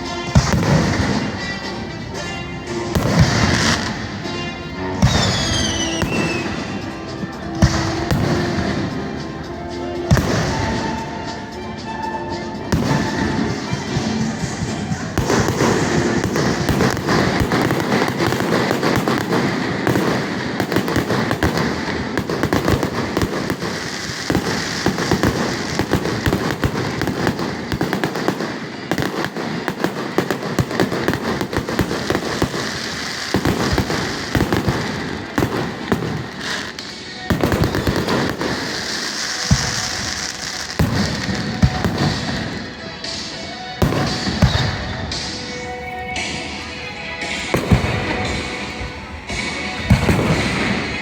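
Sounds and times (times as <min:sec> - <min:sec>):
fireworks bangs and crackling: 0:00.0 - 0:51.0.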